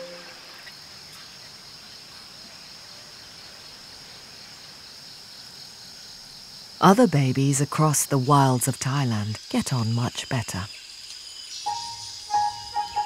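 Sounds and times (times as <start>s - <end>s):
faint outdoor ambience: 0.0s - 13.0s
high-pitched insect chorus: 0.0s - 13.0s.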